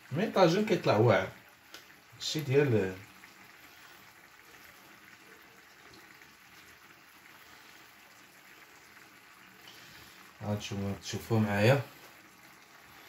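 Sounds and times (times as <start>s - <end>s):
pot simmering: 0.0s - 13.0s.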